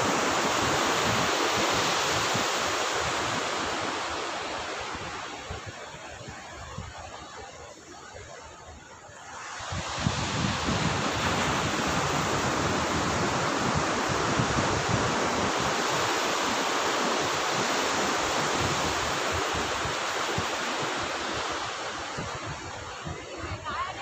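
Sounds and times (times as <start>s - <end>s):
surf breaking on beach: 0.0s - 7.0s, 9.5s - 24.0s
wind buffeting microphone: 0.0s - 24.0s.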